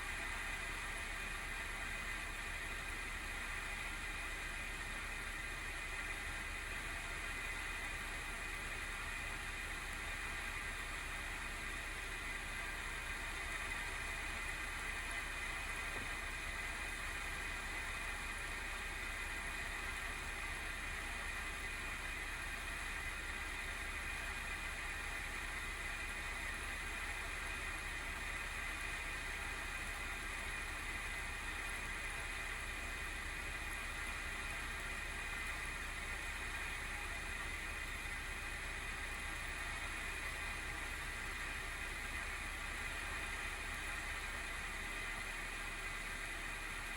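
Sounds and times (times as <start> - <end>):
cooling fan whirring: 0.0 - 46.9
hissy fan noise: 0.0 - 46.9.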